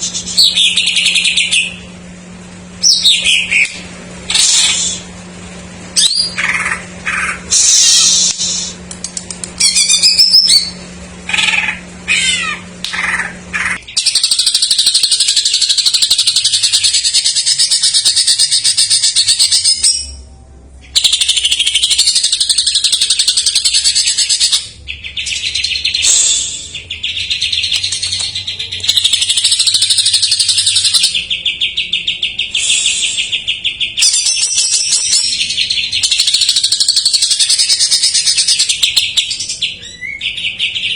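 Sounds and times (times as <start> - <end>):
bird singing: 0.0 - 1.9, 2.8 - 4.6, 6.0 - 8.1, 9.6 - 40.9.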